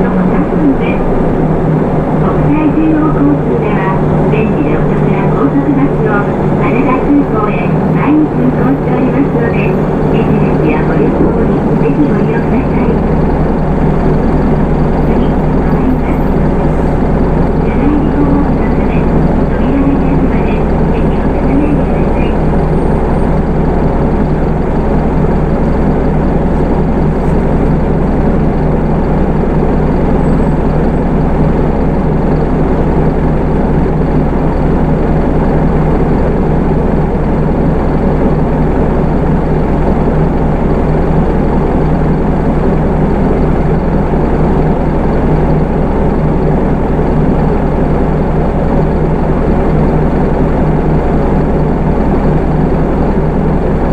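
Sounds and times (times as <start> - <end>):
diesel bus engine drone: 0.0 - 53.9
road noise: 0.0 - 53.9.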